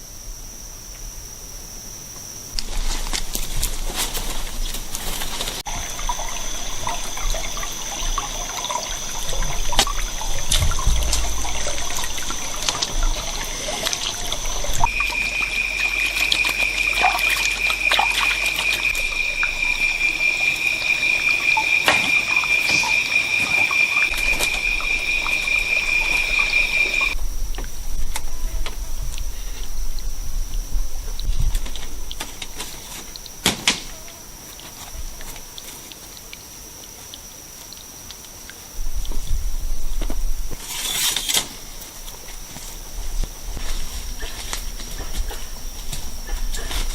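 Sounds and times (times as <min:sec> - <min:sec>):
insects droning: 0:00.0 - 0:46.9
loud steady insect call: 0:00.0 - 0:46.9
trickling water: 0:02.5 - 0:46.9.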